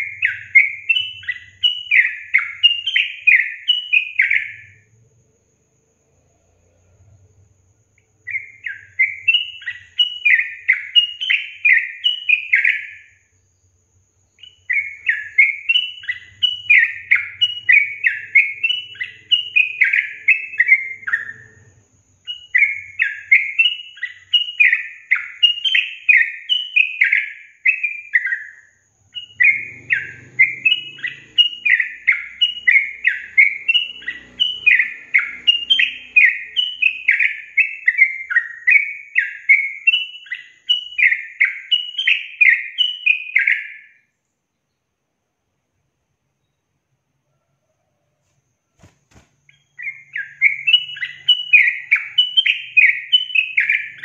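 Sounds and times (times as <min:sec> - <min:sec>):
bulbul chattering song: 0:00.0 - 0:05.1, 0:06.9 - 0:13.5, 0:14.2 - 0:44.0, 0:48.8 - 0:54.0.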